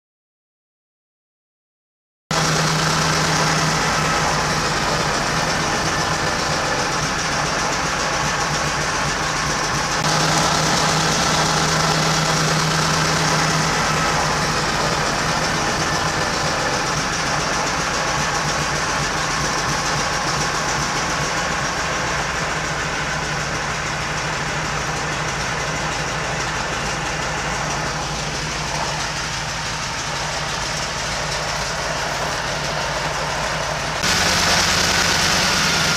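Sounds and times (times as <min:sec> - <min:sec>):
aircraft radial engine running: 0:02.3 - 0:35.9.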